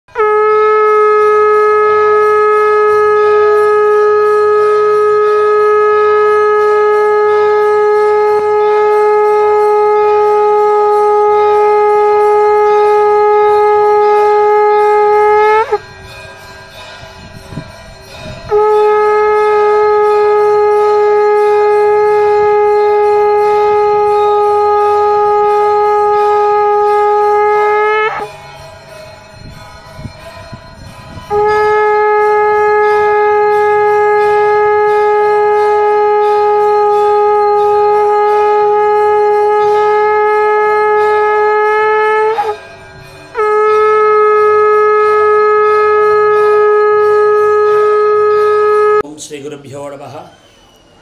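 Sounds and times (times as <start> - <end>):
conch shell blasts: 0.1 - 15.8, 18.5 - 28.4, 31.3 - 49.1.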